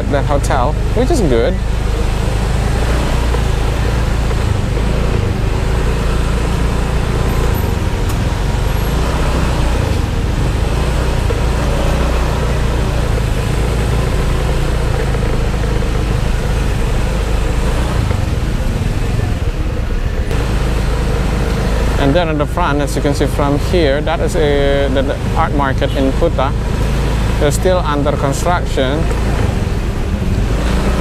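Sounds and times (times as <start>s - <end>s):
motorbike engine running: 0.0s - 31.0s
road traffic: 0.0s - 31.0s.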